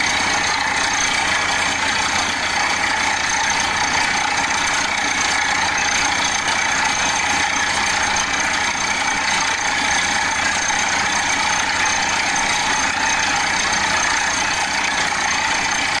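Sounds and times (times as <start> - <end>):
drilling rig running: 0.0 - 16.0.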